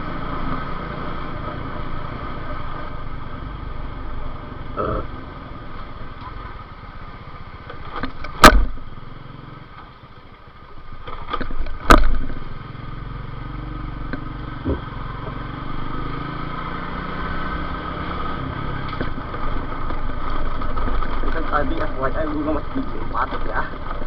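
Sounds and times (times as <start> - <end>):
motorcycle engine accelerating: 0.0 - 24.0
road and wind noise: 0.0 - 24.0.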